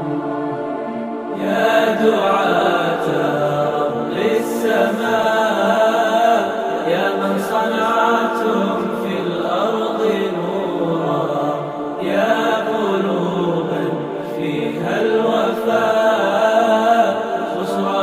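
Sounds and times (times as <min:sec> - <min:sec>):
group of voices chanting song: 0:00.0 - 0:18.0.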